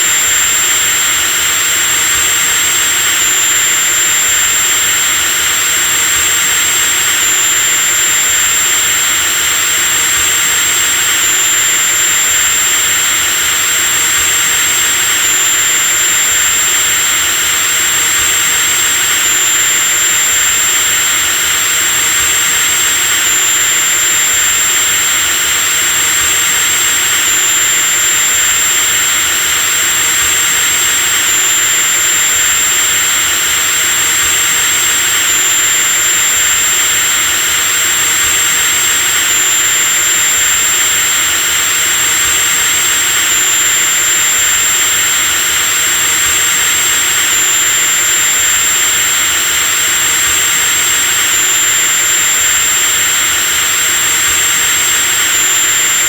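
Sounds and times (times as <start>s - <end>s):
electric drill motor whining: 0.0s - 56.0s.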